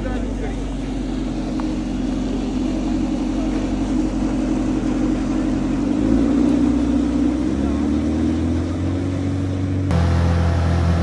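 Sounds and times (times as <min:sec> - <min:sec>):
speedboat engine droning: 0:00.0 - 0:11.0.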